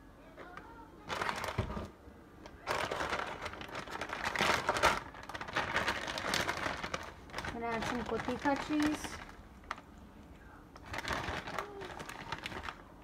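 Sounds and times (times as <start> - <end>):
wrapping crinkling: 0.4 - 1.9, 2.6 - 9.9, 10.7 - 13.0.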